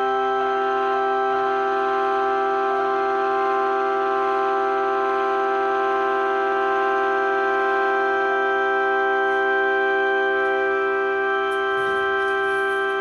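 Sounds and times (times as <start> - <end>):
warning sirens: 0.0 - 13.0.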